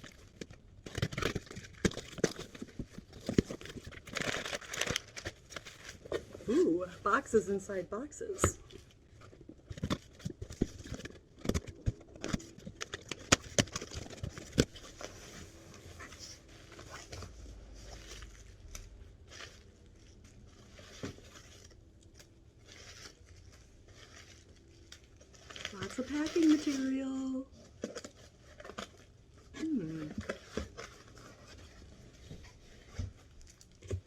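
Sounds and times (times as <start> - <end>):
packing material rustling: 0.0 - 7.4, 8.6 - 34.0.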